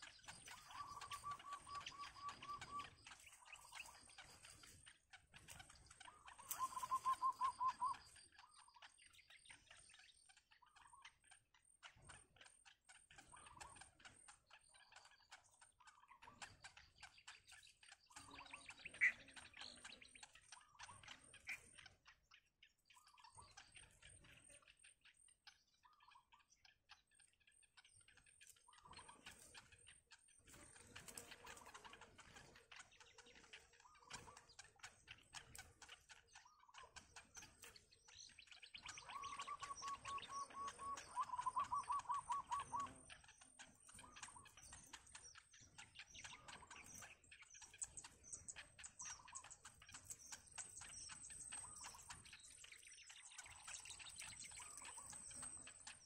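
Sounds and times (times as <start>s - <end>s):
faint birdsong chirps: 0.0s - 56.0s.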